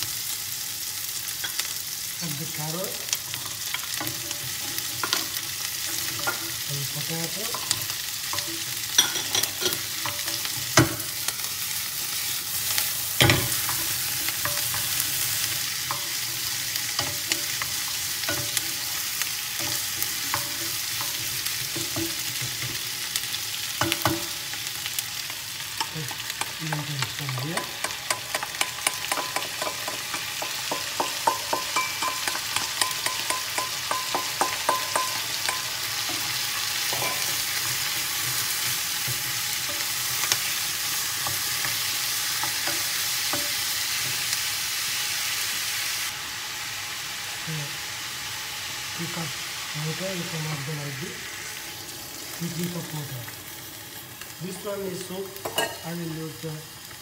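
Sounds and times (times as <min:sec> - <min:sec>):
vegetables sizzling in a frying pan: 0:00.0 - 0:57.0.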